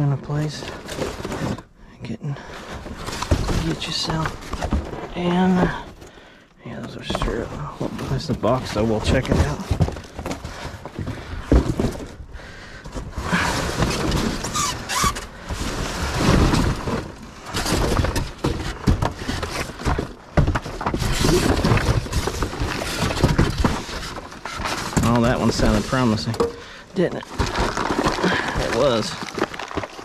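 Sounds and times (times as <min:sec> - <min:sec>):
box being shaken and opened: 0:00.0 - 0:01.7, 0:02.5 - 0:06.1, 0:06.9 - 0:30.0
rattling and rustling: 0:00.3 - 0:01.8, 0:02.4 - 0:30.0.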